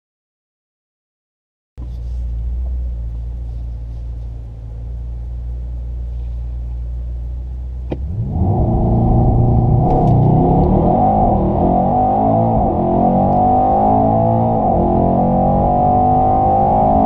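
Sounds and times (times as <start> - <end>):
car engine idling and revving: 1.8 - 17.0.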